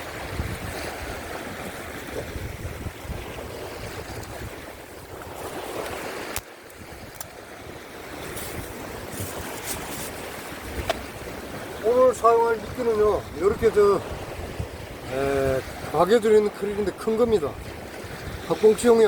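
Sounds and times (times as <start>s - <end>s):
surf breaking on rocks: 0.0s - 19.0s
wind buffeting microphone: 0.0s - 19.0s.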